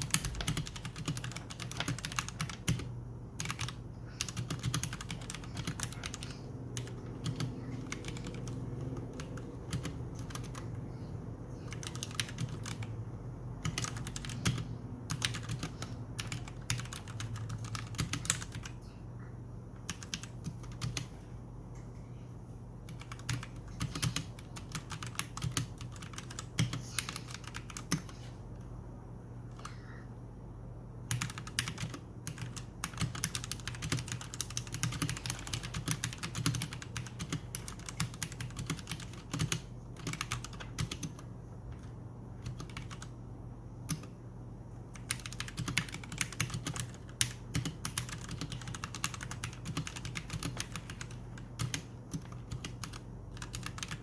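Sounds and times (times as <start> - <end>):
mechanical keyboard typing: 0.0 - 10.8, 11.6 - 13.0, 13.6 - 18.8, 19.8 - 21.1, 22.9 - 28.1, 31.1 - 43.1, 43.8 - 44.1, 44.9 - 54.0
steady low hum: 0.0 - 54.0.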